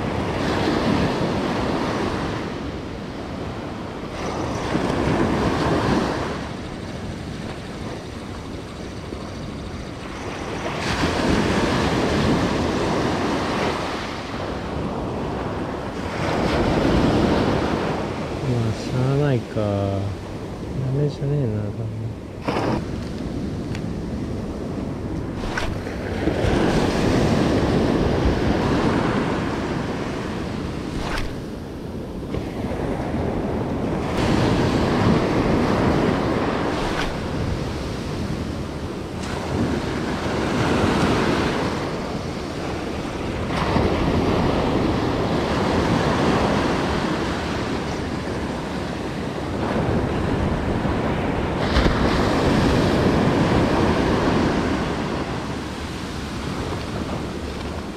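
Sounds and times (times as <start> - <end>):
ocean surf breaking on beach: 0.0 - 57.9.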